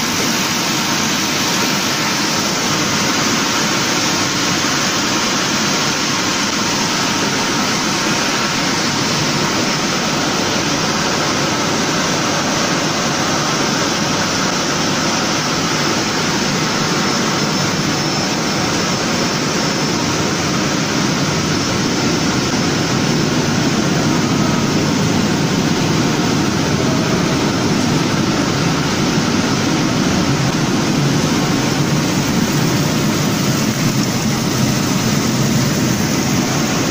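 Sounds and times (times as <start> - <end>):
machinery rushing noise: 5.7 - 36.9.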